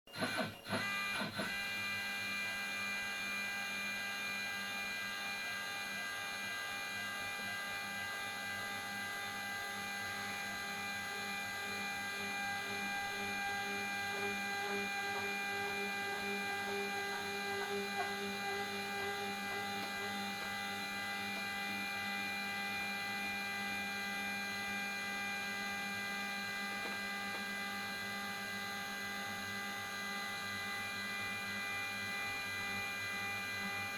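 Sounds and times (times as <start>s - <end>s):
router motors whining: 0.1s - 33.9s.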